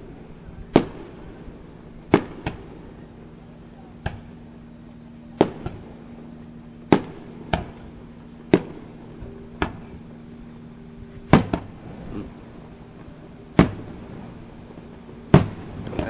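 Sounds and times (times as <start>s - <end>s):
fireworks bursting with echo: 0.0s - 4.7s, 5.3s - 10.4s, 11.1s - 16.0s.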